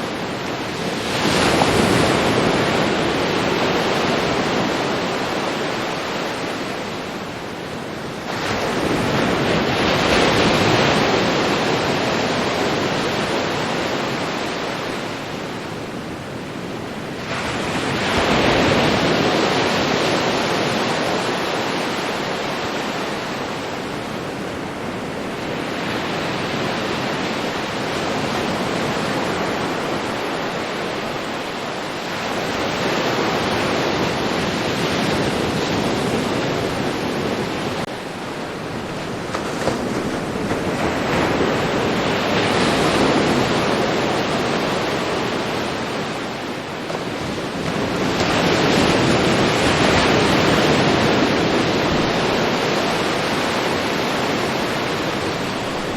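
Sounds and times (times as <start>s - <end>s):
ocean surf washing onto beach: 0.0s - 55.9s.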